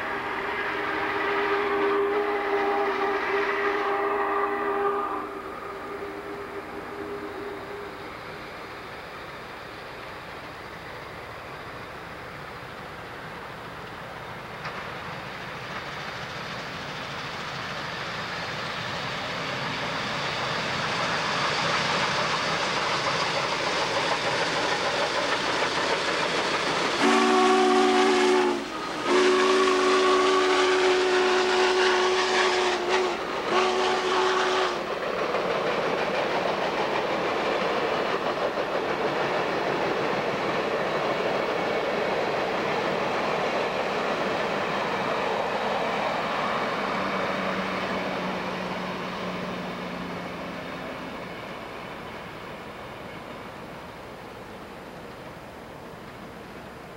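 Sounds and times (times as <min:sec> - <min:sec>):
steam locomotive running: 0:00.0 - 0:56.9.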